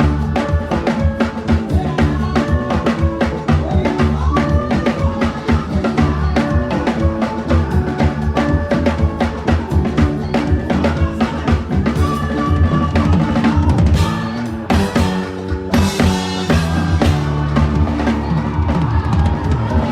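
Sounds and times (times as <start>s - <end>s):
drum kit played quickly: 0.0s - 19.9s.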